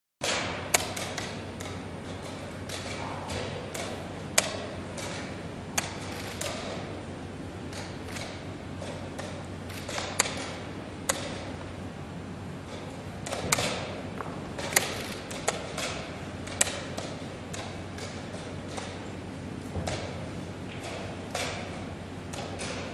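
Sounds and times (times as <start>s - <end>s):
low background hum: 0.2s - 22.9s.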